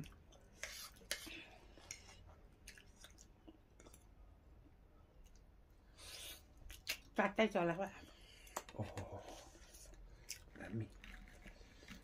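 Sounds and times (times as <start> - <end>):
faint chewing: 0.0 - 7.2, 8.0 - 12.0.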